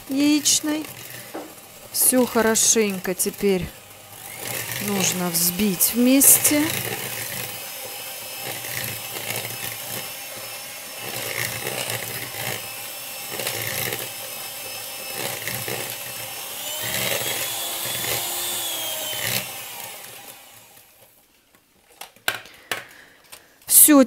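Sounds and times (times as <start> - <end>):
electric hand mixer running: 0.0 - 21.2.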